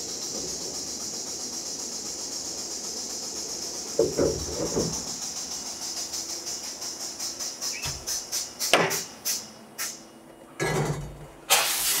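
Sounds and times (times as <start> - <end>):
blast cabinet hissing and pulsing: 0.0 - 10.0, 11.4 - 12.0.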